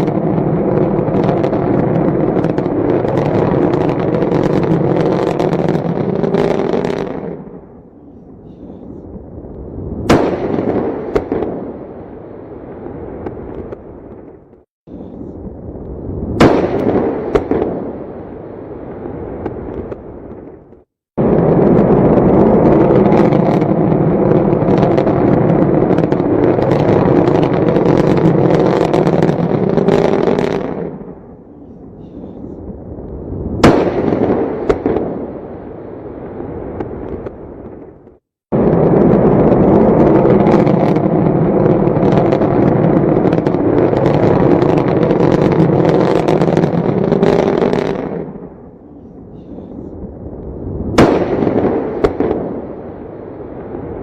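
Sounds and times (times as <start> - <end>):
dense crackling roar: 0.0 - 54.0.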